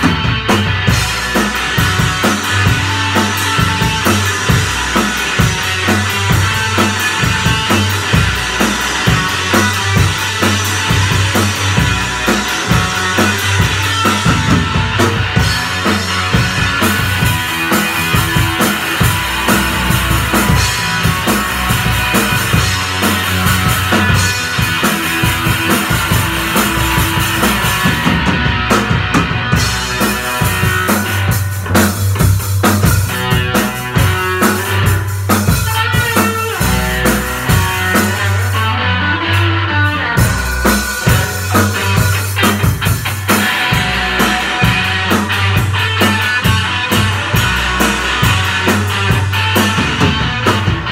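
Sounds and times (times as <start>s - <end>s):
electric bass: 0.0s - 50.9s
electric guitar: 0.0s - 50.9s.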